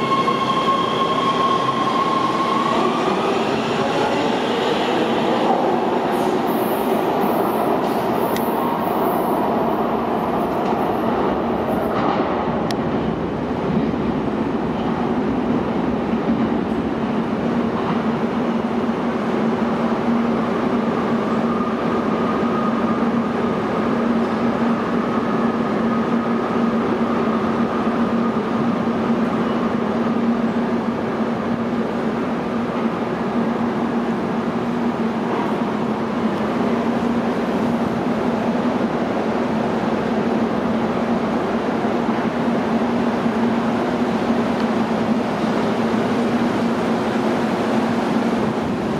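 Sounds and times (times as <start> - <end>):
subway train pulling out: 0.0 - 48.9.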